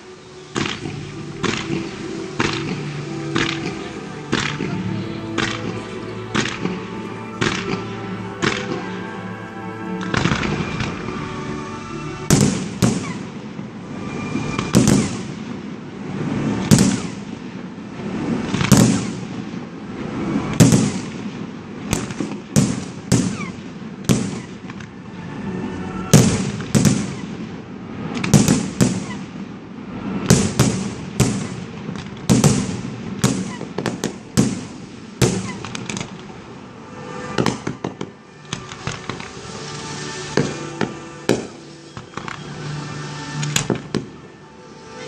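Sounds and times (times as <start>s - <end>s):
fireworks bursting with bangs: 0.0s - 9.1s, 10.0s - 45.0s.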